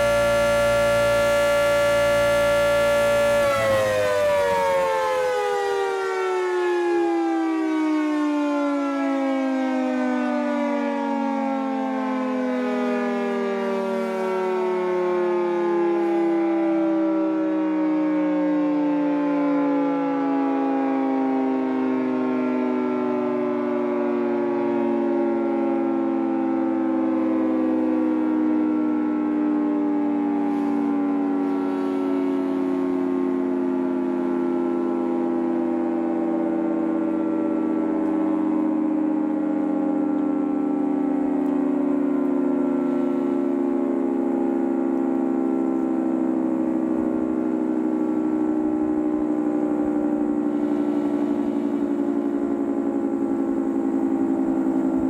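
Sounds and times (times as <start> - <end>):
warning siren winding down: 0.0 - 55.0.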